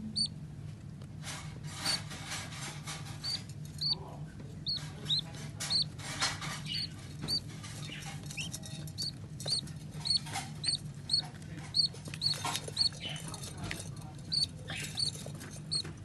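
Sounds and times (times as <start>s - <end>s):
chicks cheeping: 0.0s - 0.4s, 1.8s - 2.2s, 3.0s - 13.5s, 14.2s - 16.0s
low steady hum: 0.0s - 16.0s.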